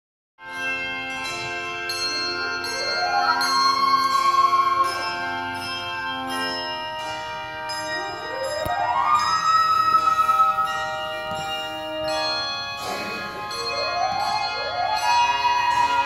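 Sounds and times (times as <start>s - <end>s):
handbell chords: 0.4s - 16.0s
rising run of bell notes: 0.4s - 16.0s.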